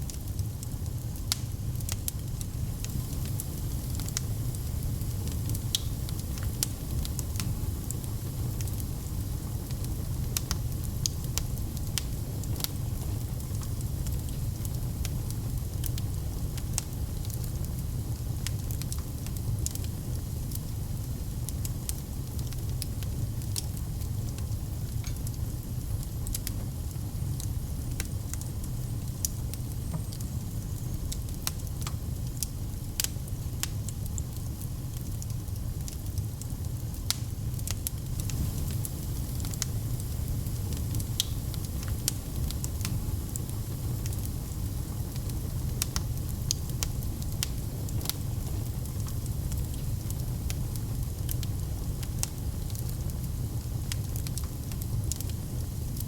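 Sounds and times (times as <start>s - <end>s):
fire crackling and popping: 0.0s - 56.0s
log fire burning: 0.0s - 56.0s.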